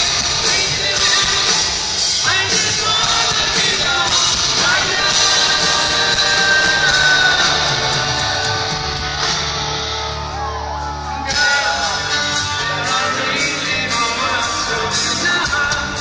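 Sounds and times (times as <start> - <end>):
person singing: 0.0 - 9.3, 11.0 - 16.0
distorted electric guitars: 0.0 - 16.0
drums: 0.0 - 16.0.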